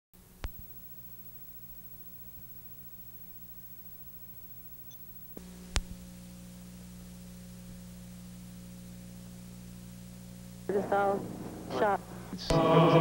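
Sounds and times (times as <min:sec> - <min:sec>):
electrical mains hum: 0:00.2 - 0:13.0
faint tape hiss: 0:00.2 - 0:13.0.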